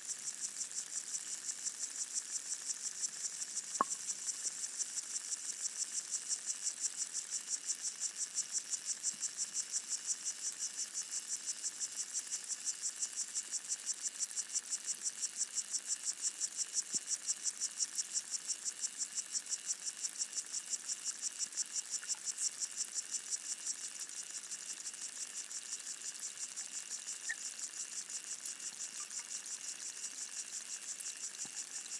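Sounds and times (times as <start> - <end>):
water insects stridulating underwater: 0.0 - 31.9.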